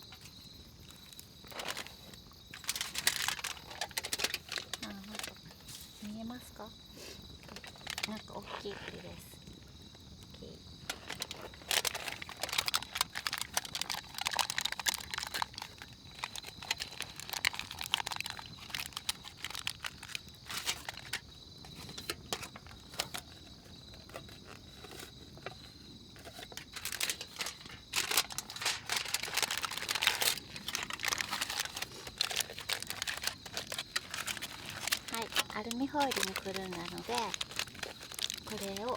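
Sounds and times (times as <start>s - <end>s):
aluminium foil crinkling: 0.0s - 38.9s
high insect trill: 0.0s - 38.9s.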